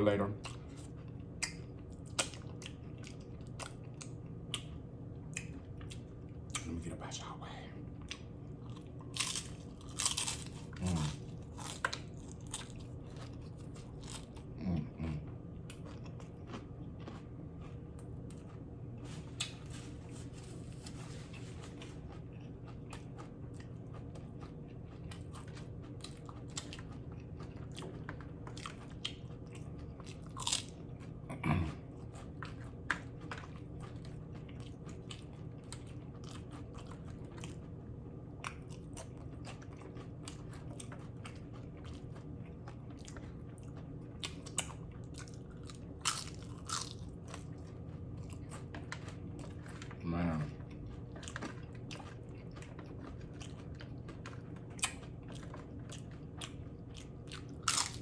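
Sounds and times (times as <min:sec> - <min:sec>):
chewing and crunching: 0:00.0 - 0:58.0
steady low hum: 0:00.0 - 0:58.0.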